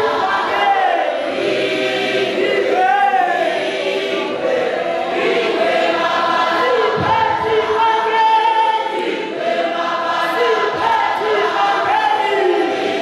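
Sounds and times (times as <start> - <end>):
choir singing gospel: 0.0 - 13.0.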